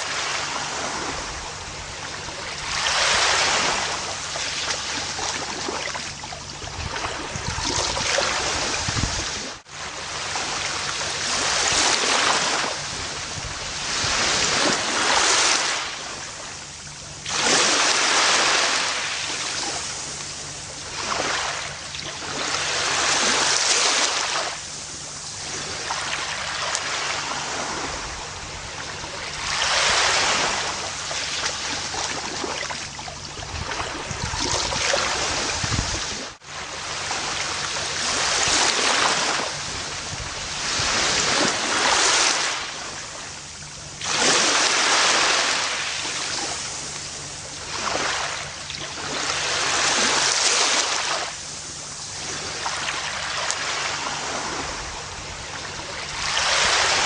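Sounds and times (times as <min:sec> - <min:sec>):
ocean surf washing onto beach: 0:00.0 - 0:43.4, 0:44.0 - 0:57.0.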